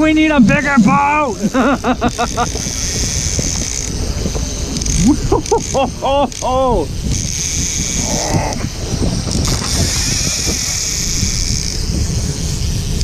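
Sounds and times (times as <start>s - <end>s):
boat engine rumble: 0.0s - 13.0s
fishing reel ticking: 0.0s - 13.0s
wind buffeting microphone: 0.0s - 13.0s.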